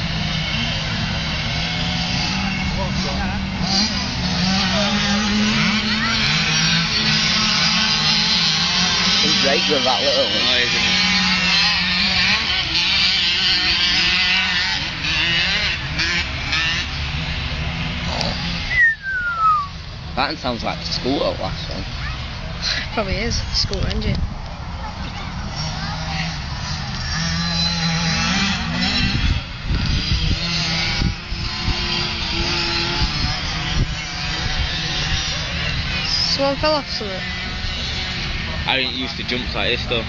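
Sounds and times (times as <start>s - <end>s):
small motorbike engines revving: 0.0s - 40.0s.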